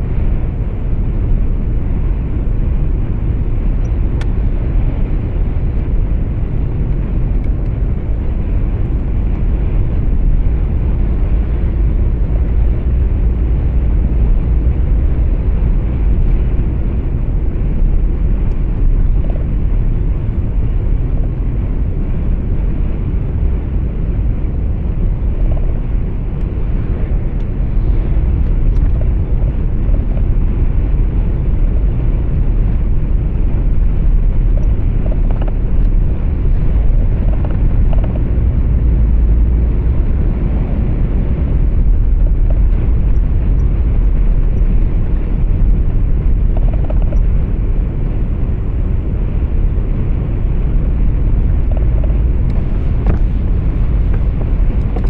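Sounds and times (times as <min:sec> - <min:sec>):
truck engine rumble: 0:00.0 - 0:55.0.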